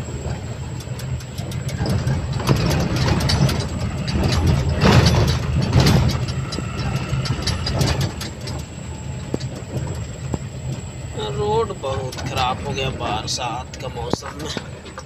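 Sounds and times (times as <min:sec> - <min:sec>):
diesel engine humming: 0:00.0 - 0:15.0
heavy truck jolts: 0:00.0 - 0:15.0
truck cab clattering and knocking: 0:00.0 - 0:15.0.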